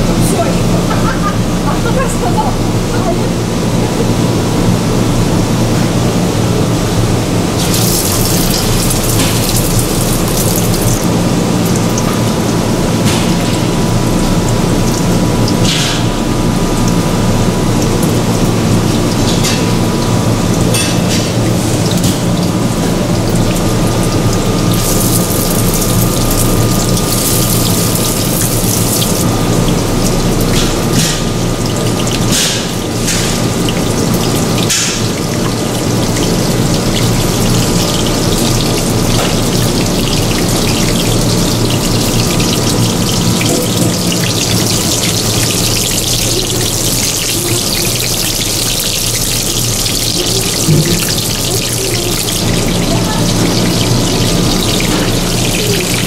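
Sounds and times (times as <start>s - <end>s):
fish sizzling in hot oil: 7.3s - 56.0s.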